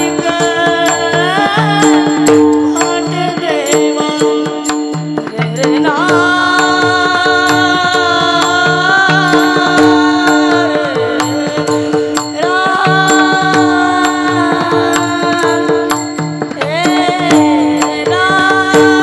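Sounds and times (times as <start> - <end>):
drumming: 0.0 - 19.0
person singing long held notes: 0.0 - 19.0.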